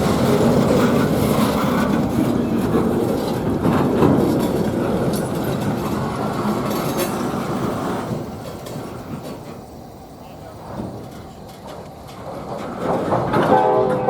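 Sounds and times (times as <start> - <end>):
train wheels rumbling and clicking: 0.0 - 14.0.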